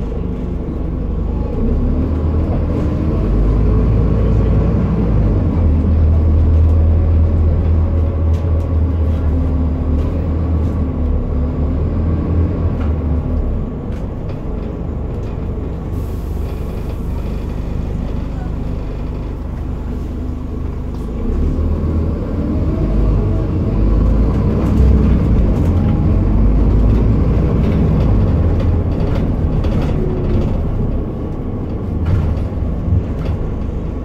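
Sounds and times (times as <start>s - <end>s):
bus diesel engine pulling away: 0.0s - 34.0s.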